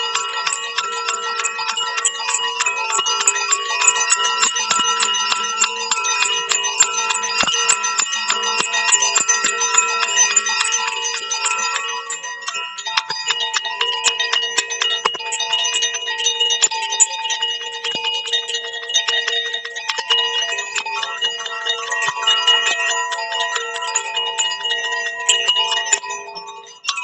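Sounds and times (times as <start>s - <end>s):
metallic bell-like tones: 0.0s - 27.0s.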